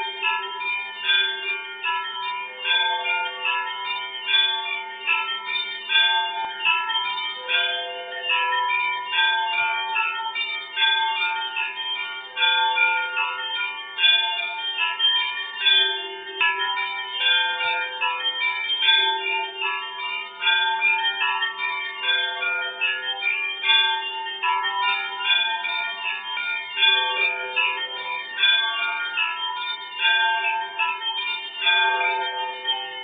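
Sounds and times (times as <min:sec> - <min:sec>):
small high bells ringing: 0:00.0 - 0:33.0.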